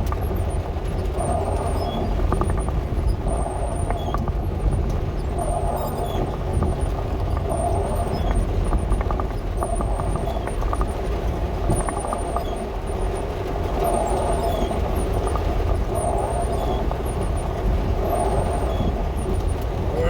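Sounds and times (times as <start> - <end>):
van engine and road rumble: 0.0 - 20.0.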